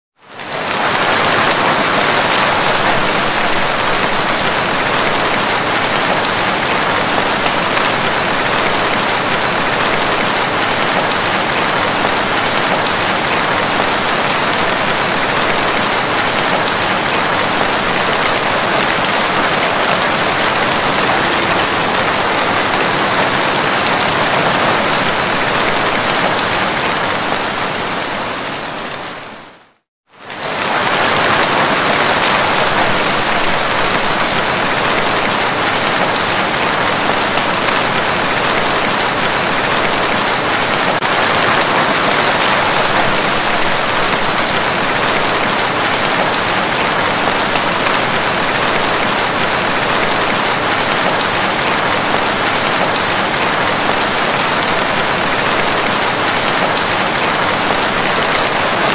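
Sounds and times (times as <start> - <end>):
heavy rain pouring: 0.2 - 58.9.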